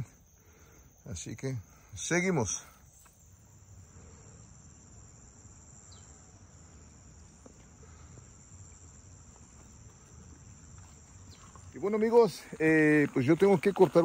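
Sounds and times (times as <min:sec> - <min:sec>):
crickets calling: 0:00.0 - 0:14.0.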